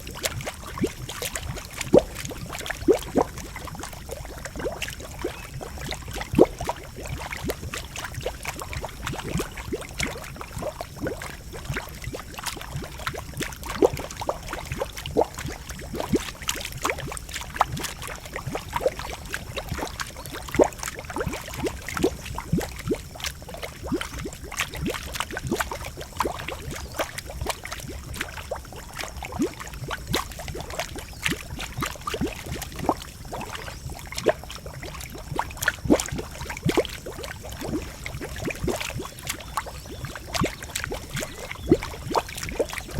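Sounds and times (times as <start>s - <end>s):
boiling pool bubbling and gurgling: 0.0s - 42.9s.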